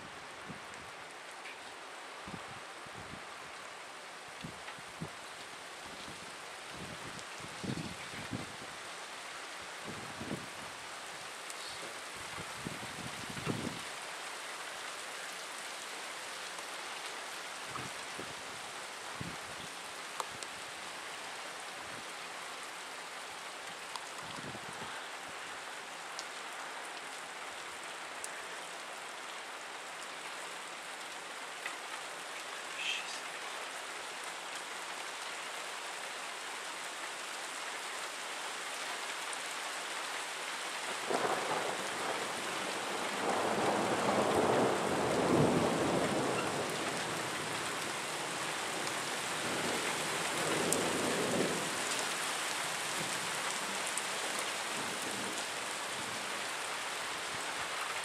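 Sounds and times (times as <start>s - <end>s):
rain hissing: 3.8s - 35.1s, 40.8s - 58.0s.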